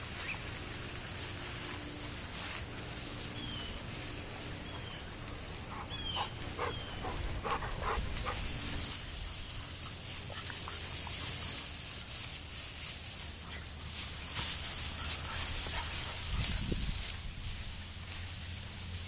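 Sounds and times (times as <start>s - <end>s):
dry grass rustling and crackling: 0.0s - 19.0s.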